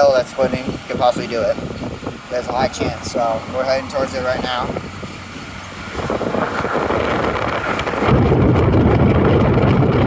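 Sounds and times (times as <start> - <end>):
steady rushing noise: 0.0 - 10.0
wind buffeting microphone: 0.0 - 10.0.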